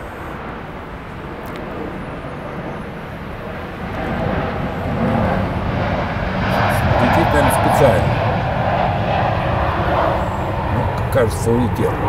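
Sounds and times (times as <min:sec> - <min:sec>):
airplane engine drone: 0:00.0 - 0:12.0.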